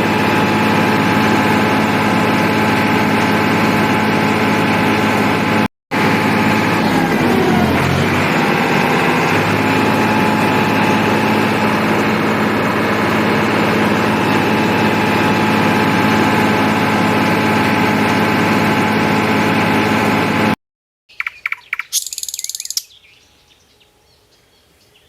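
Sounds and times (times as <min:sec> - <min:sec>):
tractor engine running: 0:00.0 - 0:20.6.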